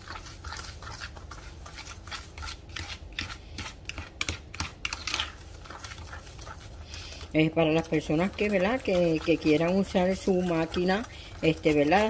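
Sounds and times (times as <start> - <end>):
fork scraping a bowl: 0.0 - 12.0.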